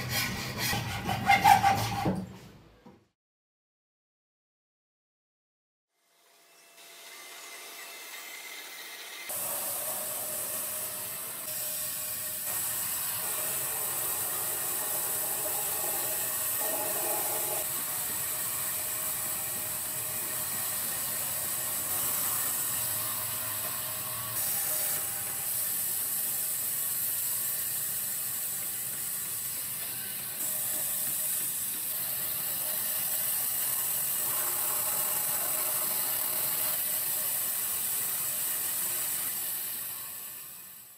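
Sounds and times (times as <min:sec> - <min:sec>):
bandsaw cutting wood: 0:06.8 - 0:40.3.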